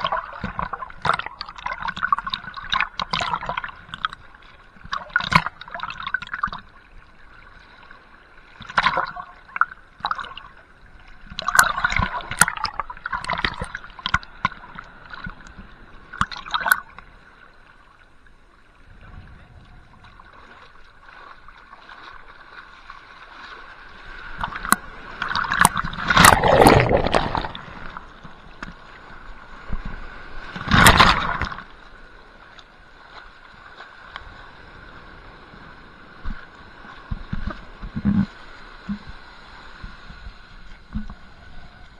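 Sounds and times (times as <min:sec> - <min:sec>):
sea water sloshing and gurgling: 0:00.0 - 0:41.9.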